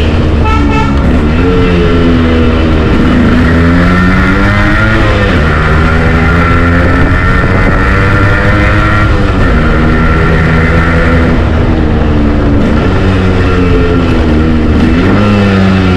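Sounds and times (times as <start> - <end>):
motorcycle engine accelerating: 0.0 - 15.9.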